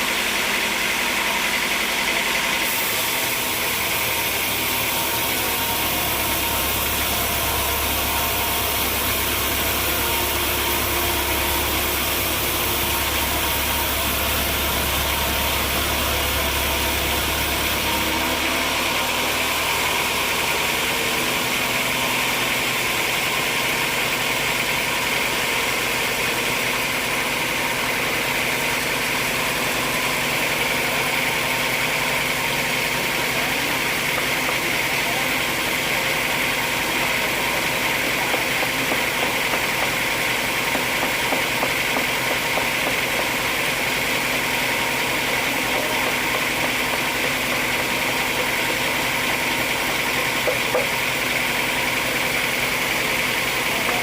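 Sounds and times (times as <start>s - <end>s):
machine engine humming: 0.0s - 54.0s.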